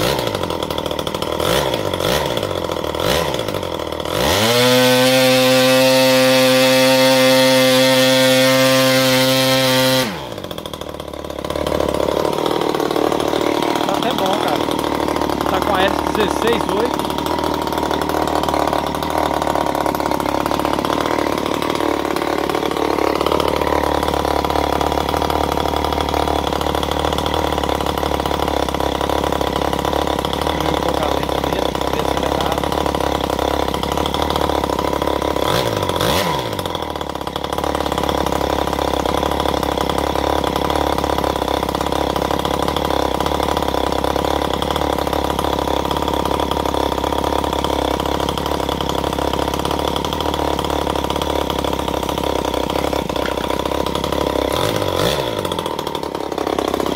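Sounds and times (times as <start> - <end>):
two-stroke engine running: 0.0 - 56.9.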